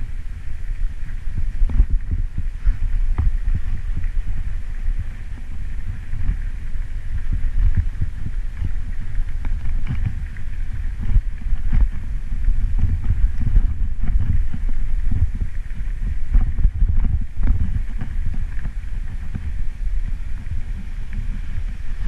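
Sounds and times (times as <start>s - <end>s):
bike rolling over gravel: 0.0s - 22.0s
wind buffeting microphone: 0.0s - 22.0s.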